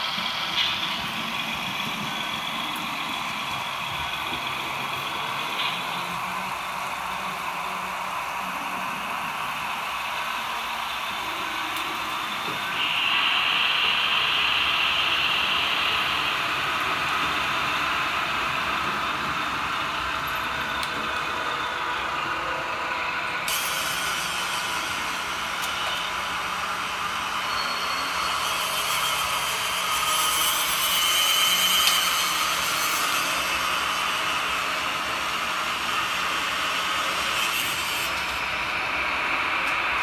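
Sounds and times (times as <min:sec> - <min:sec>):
model trains whirring on rails: 0:00.0 - 0:40.0.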